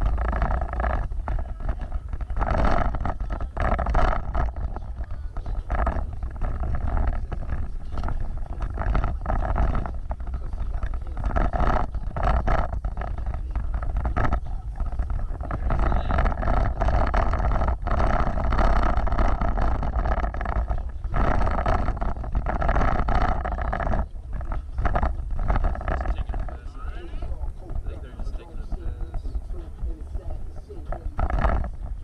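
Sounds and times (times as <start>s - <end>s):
vehicle rumble off-road: 0.0s - 32.0s.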